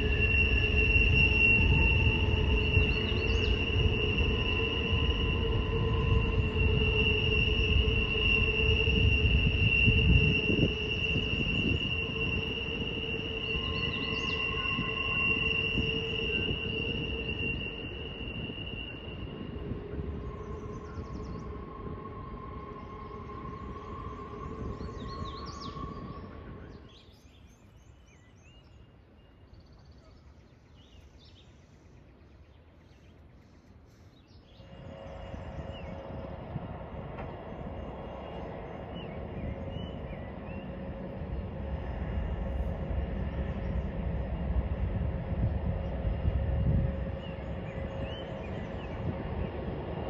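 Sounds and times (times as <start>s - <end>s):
train wheels squealing: 0.0s - 29.2s, 32.8s - 50.0s
rumble of train cars: 0.0s - 50.0s.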